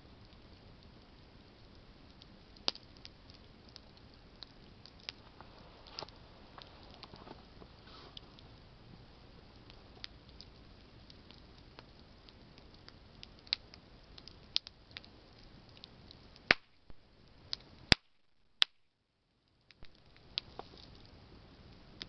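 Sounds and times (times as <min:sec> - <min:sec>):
low hiss of flames: 0:00.0 - 0:18.7, 0:19.4 - 0:22.0
campfire crackling and popping: 0:00.0 - 0:22.0.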